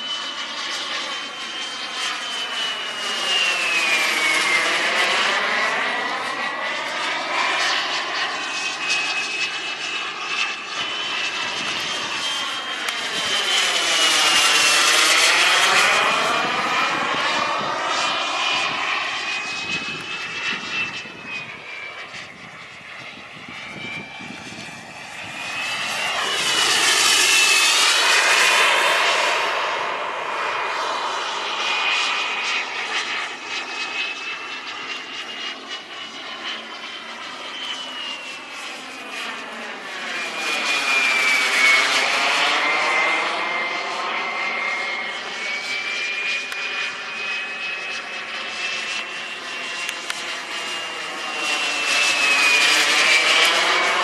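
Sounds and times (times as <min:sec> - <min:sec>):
model jet engine whine: 0:00.0 - 0:54.0.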